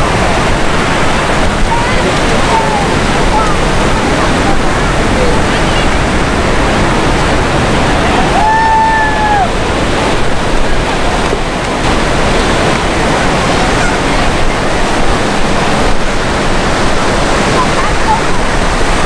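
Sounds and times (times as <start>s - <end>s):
jet engines roaring overhead: 0.0s - 19.0s.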